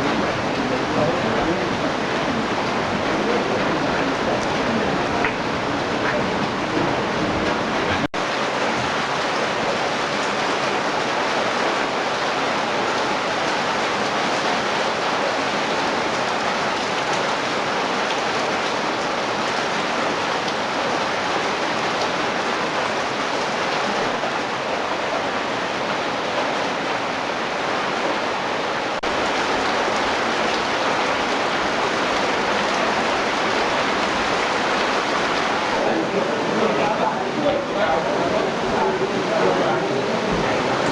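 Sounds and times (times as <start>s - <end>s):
wind and water rushing: 0.0s - 40.9s.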